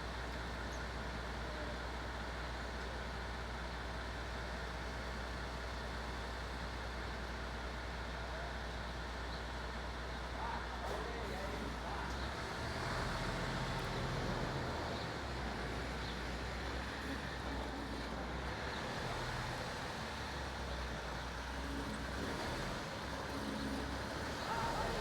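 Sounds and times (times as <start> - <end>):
diesel locomotive engine humming: 0.0 - 25.0.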